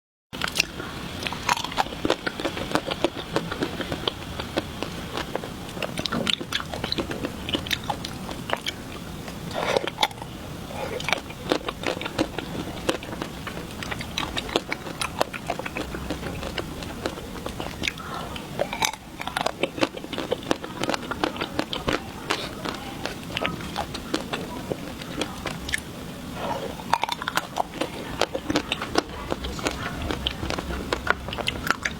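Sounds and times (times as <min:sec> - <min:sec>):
biting and chewing ice cream: 0:00.4 - 0:31.9.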